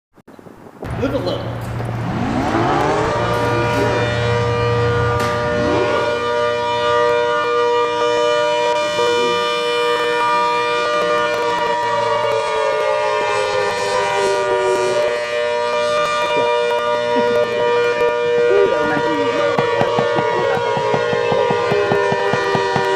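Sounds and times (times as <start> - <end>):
civil defense sirens wailing: 0.9 - 22.9.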